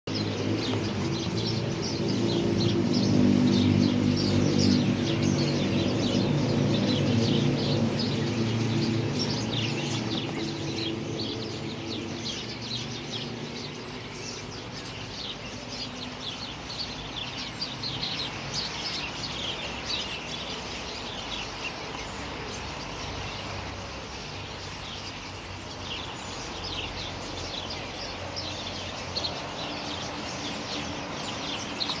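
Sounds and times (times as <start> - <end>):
starlings chattering: 0.0 - 32.0.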